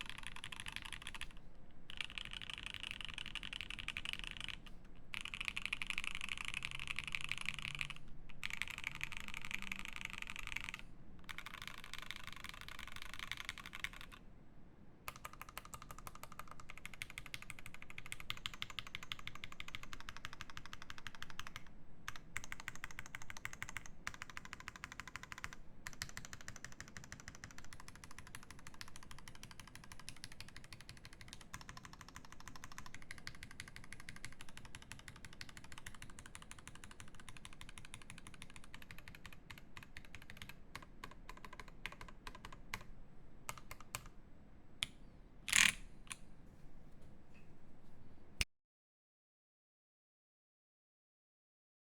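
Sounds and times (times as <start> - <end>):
fast typing on mechanical keyboard: 0.0 - 14.2, 15.1 - 42.9, 43.5 - 44.1.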